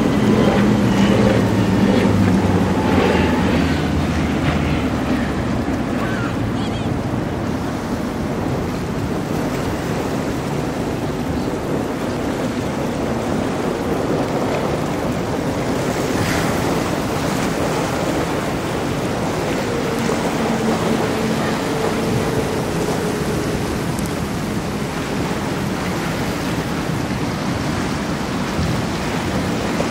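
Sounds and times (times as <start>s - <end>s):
powerboat engines: 0.0s - 29.9s
waves washing: 0.0s - 29.9s
wind on microphone: 0.0s - 29.9s.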